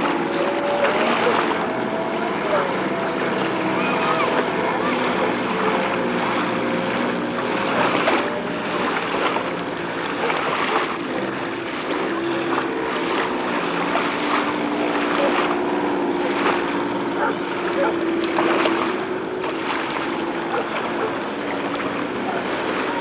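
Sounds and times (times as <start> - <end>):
boat engine running: 0.0 - 23.0
rushing water: 0.0 - 23.0.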